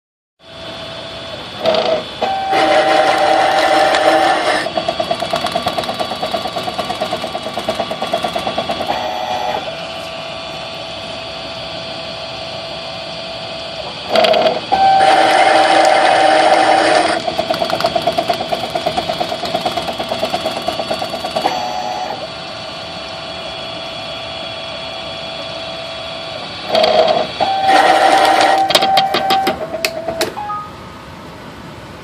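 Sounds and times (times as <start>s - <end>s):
lathe motor whine: 0.4s - 32.0s
fast pulsing beat of labouring motor: 1.1s - 11.9s, 13.4s - 30.2s
lathe cutting noise: 1.2s - 11.8s, 13.3s - 29.8s.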